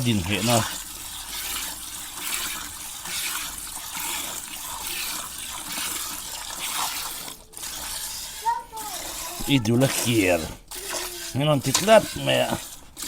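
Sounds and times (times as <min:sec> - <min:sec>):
water splashing and pouring: 0:00.0 - 0:13.0.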